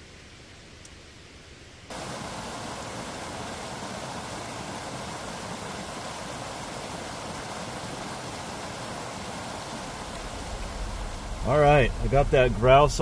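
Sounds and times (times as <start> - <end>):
creek rushing over rocks: 1.9 - 13.0.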